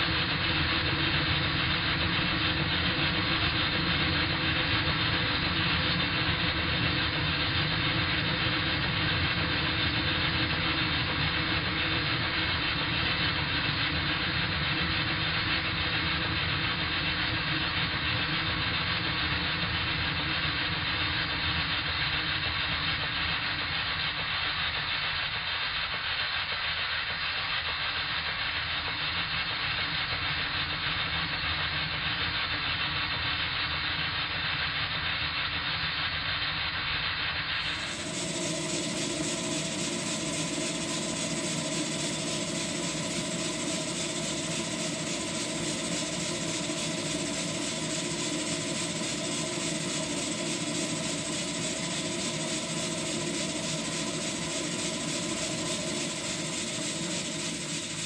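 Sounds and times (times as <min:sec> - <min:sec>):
steam engine running: 0:00.0 - 0:58.0.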